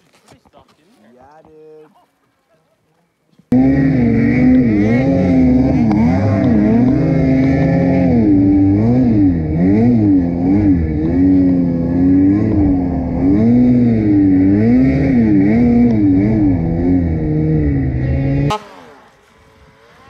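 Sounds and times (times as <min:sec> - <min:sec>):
snowmobile engine revving: 0:03.5 - 0:20.0.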